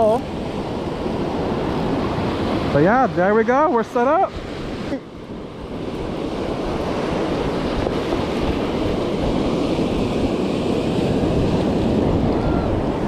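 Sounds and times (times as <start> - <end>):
wind buffeting microphone: 0.0 - 13.0
surf breaking on sand: 0.1 - 13.0.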